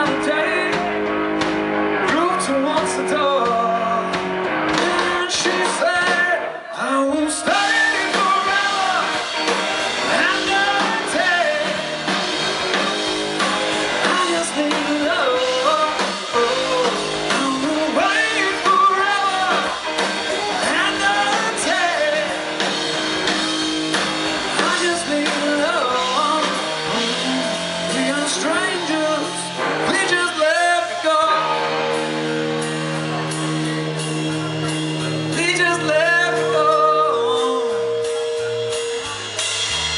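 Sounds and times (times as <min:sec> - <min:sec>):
person singing: 0:00.0 - 0:01.1, 0:02.0 - 0:23.3, 0:24.4 - 0:39.7
live rock band playing: 0:00.0 - 0:39.9.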